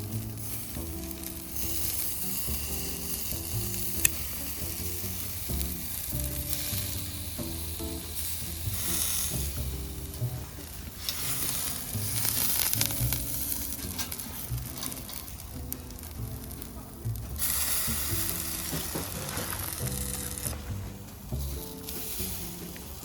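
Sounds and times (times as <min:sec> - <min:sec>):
meat sizzling on a grill: 0:00.0 - 0:23.0.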